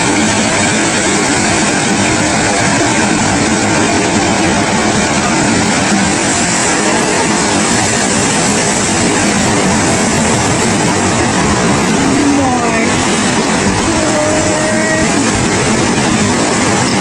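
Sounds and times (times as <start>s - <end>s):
loud steady rushing noise: 0.0s - 17.0s.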